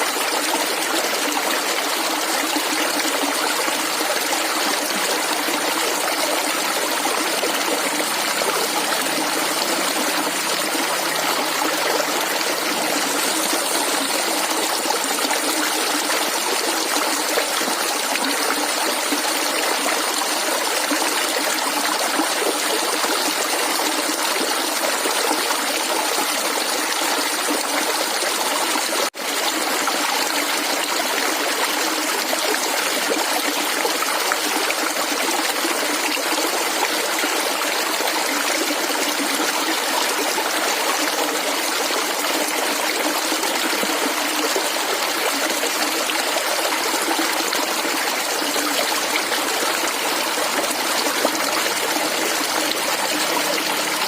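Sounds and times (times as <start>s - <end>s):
stream water gurgling: 0.0s - 54.0s.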